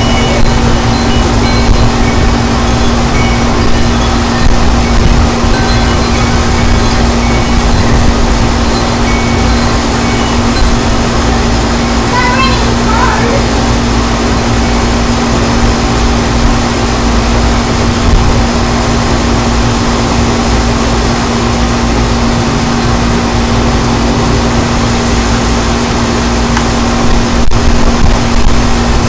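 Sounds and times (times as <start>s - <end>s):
steady low hum: 0.0s - 29.0s
strong wind on microphone: 0.0s - 29.0s.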